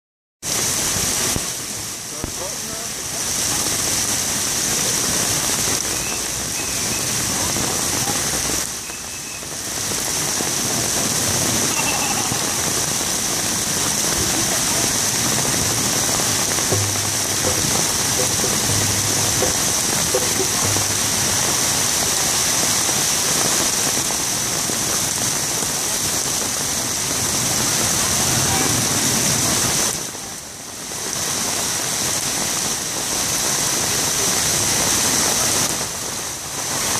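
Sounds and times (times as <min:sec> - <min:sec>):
torrential rain on pavement: 0:00.4 - 0:36.9.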